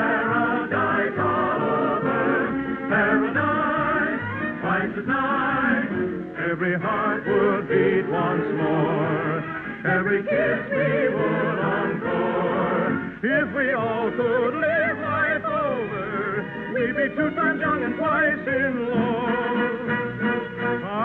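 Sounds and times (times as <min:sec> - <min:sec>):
singers with wide vibrato: 0:00.0 - 0:17.2
orchestra playing: 0:00.0 - 0:21.0.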